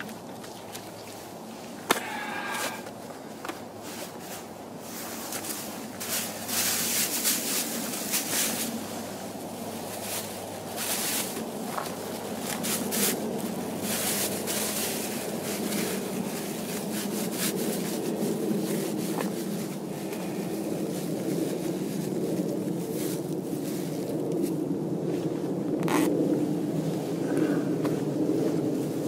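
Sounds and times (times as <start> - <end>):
distant road traffic: 0.0 - 29.0.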